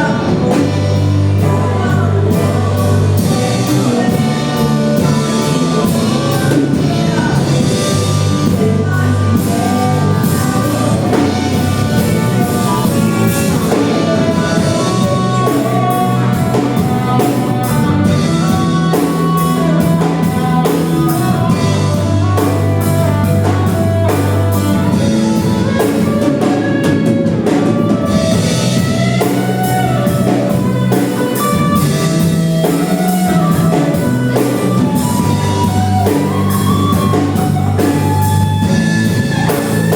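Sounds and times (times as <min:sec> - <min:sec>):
worship band music: 0:00.0 - 0:39.9.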